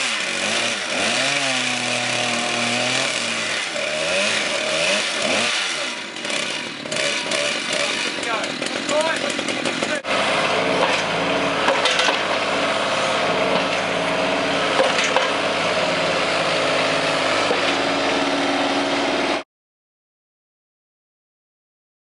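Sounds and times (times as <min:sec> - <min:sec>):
chainsaws cutting tree trunk: 0:00.0 - 0:19.4.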